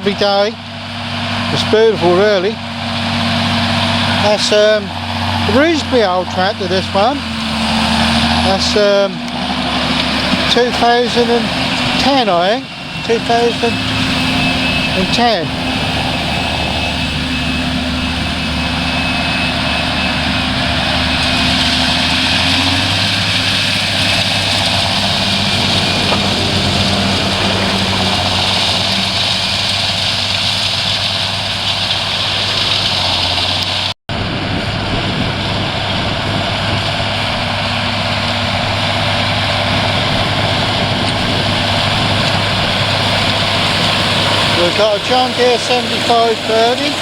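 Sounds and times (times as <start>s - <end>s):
tractor engine under load: 0.0s - 47.0s.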